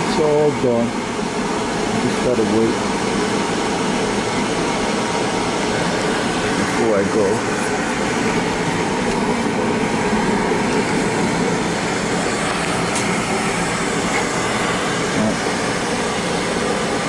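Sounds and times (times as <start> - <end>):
heating burner fan and flame: 0.0 - 17.0.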